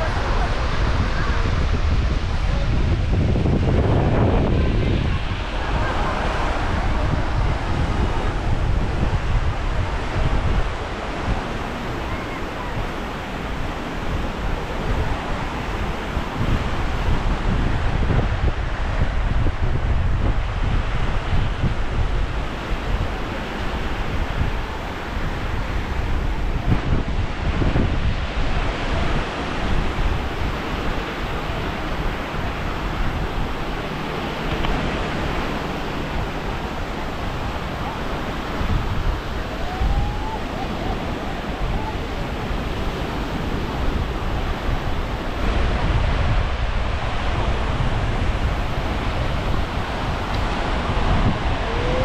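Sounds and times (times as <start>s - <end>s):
ocean surf on sandy beach: 0.0s - 52.0s
wind buffeting microphone: 0.0s - 52.0s.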